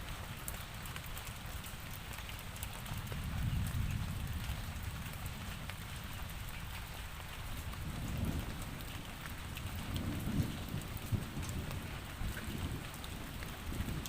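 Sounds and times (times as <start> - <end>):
sharp raindrop ticks: 0.0 - 14.0
steady rainfall: 0.0 - 14.0.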